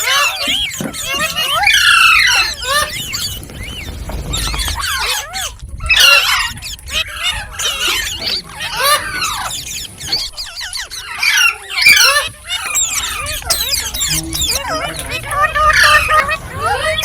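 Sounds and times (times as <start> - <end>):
parakeet chattering and squawking: 0.0 - 17.0.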